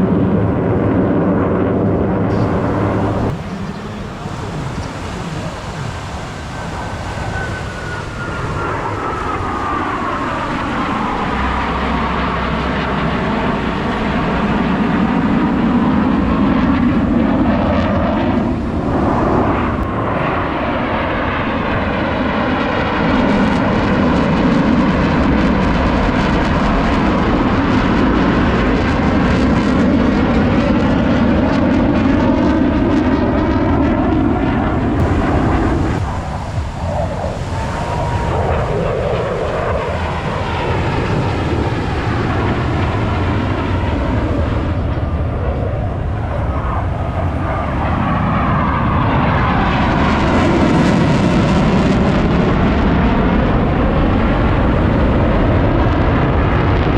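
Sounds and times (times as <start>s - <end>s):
jet engine roar: 0.0s - 56.9s
jet whine falling in pitch: 1.8s - 25.5s, 29.6s - 56.9s.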